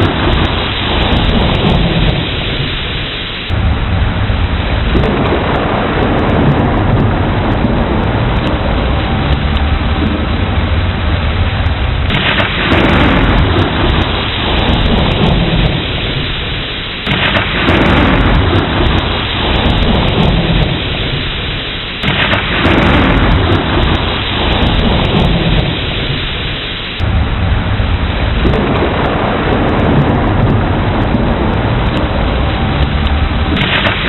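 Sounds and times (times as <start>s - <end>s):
heavy rain: 0.0s - 34.0s
thunder rolling: 0.0s - 34.0s.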